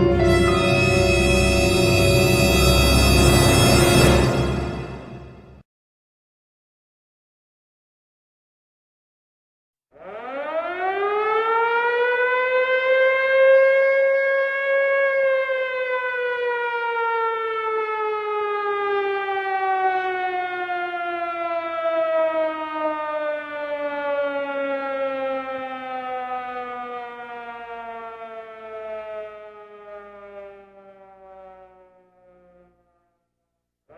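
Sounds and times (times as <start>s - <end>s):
air-raid siren wailing: 0.0s - 5.6s, 10.0s - 33.1s.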